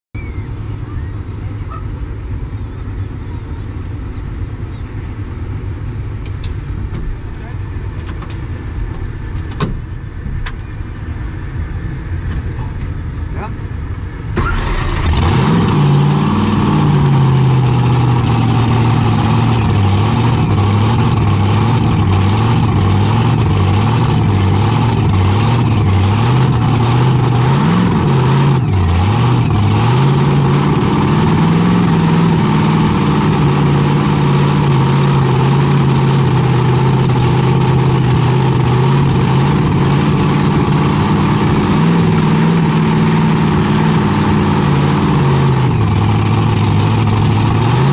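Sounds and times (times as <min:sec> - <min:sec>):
engine throttle blips: 0:00.1 - 0:47.9.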